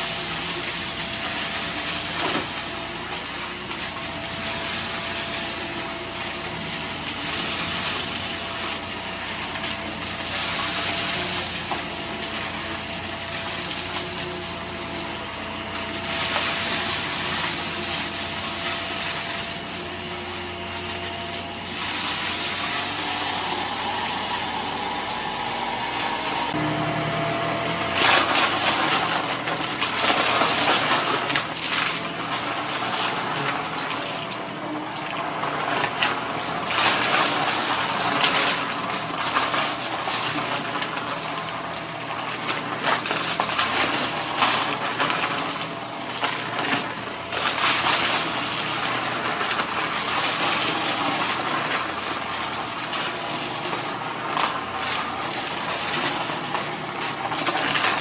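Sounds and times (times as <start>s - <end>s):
debris rattling through vacuum: 0.0s - 58.0s
vacuum cleaner running: 0.0s - 58.0s.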